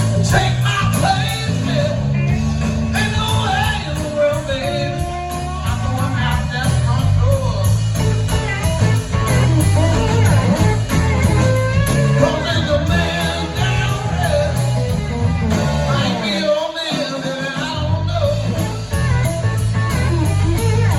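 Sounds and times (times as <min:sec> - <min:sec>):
bass: 0:00.0 - 0:20.9
drums and cymbals: 0:00.0 - 0:20.9
electric guitar lead lines: 0:00.0 - 0:20.9.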